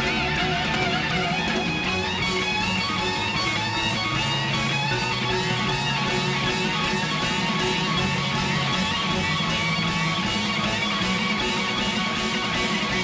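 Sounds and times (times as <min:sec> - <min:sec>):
lead electric guitar bending: 0:00.0 - 0:13.0
live rock band playing: 0:00.0 - 0:13.0.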